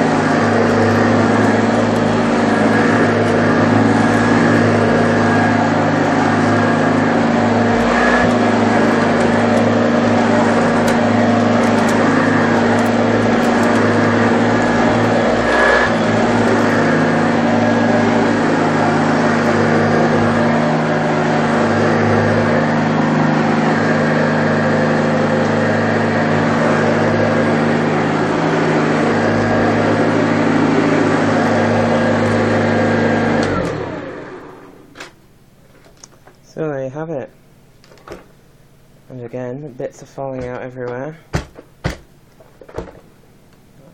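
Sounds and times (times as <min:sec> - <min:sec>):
vacuum motor winding down: 0:00.0 - 0:35.2
vacuum cleaner running: 0:00.0 - 0:36.4.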